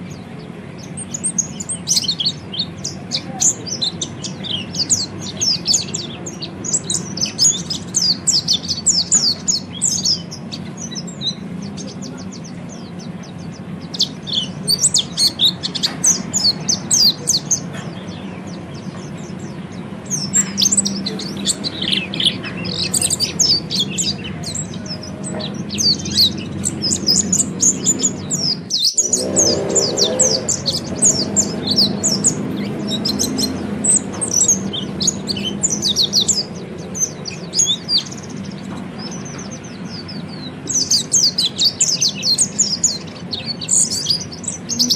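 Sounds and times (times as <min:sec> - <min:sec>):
bird twittering song: 0:00.0 - 0:44.9.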